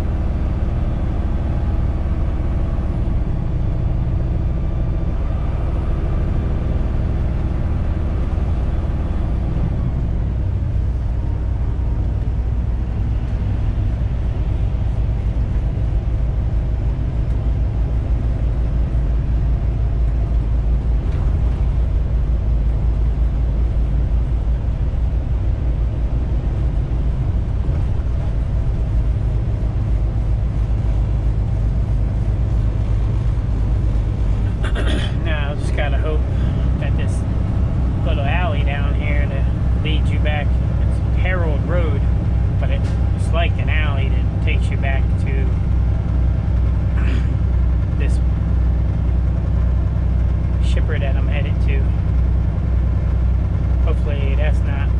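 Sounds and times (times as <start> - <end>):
truck diesel engine running: 0.0 - 54.9
tyre and road noise: 0.0 - 54.9.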